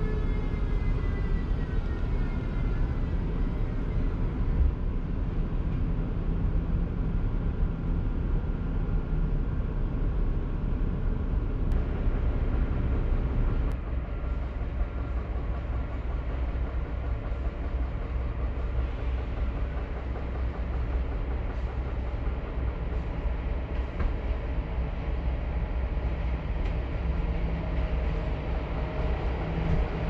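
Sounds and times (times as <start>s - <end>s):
locomotive low rumble: 0.0s - 30.0s.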